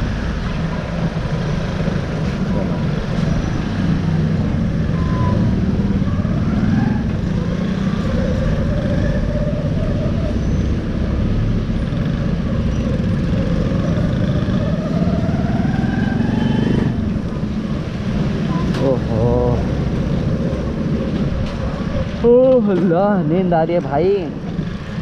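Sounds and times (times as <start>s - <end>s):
motorcycle engine accelerating: 0.0s - 22.2s.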